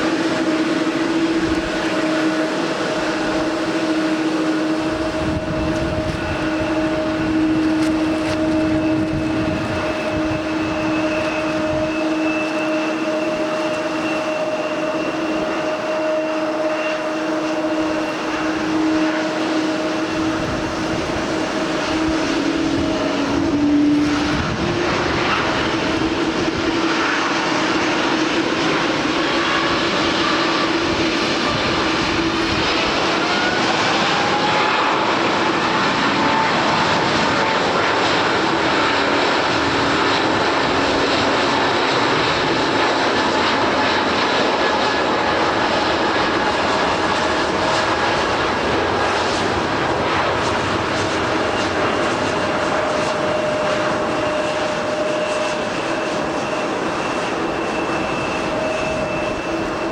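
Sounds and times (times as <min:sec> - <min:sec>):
airliner engines roaring: 0:00.0 - 0:59.9.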